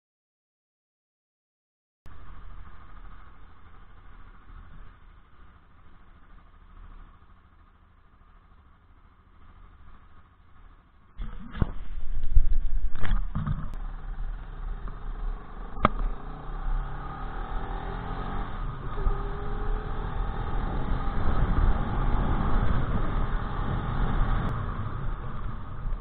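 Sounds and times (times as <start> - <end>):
motorcycle engine revving: 2.9 - 26.0.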